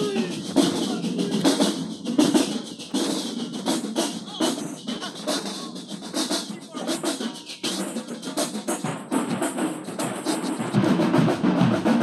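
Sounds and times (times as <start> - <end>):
drumline playing a cadence: 0.0 - 12.0.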